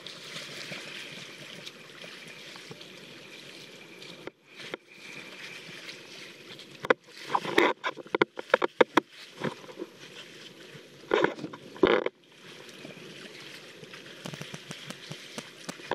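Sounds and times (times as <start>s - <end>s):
water splashing and sloshing: 0.0s - 15.9s.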